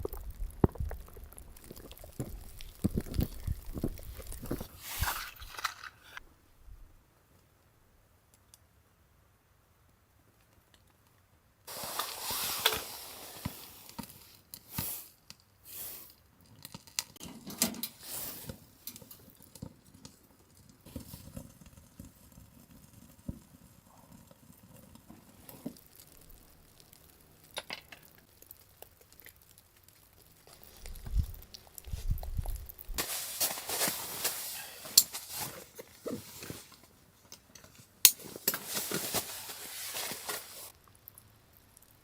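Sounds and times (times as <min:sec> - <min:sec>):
rustling and crunching: 0:00.0 - 0:06.2, 0:11.7 - 0:15.1, 0:16.6 - 0:42.0.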